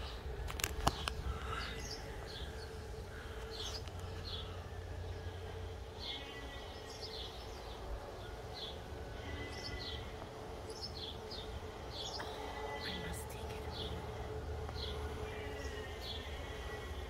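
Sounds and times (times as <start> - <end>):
faint hum: 0.0 - 17.0
low outdoor rumble: 0.0 - 17.0
small birds chirping: 0.0 - 17.0.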